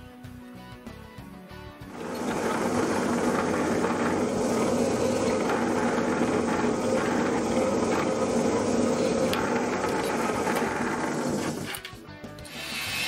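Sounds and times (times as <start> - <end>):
electric drill boring through metal: 1.9 - 13.0.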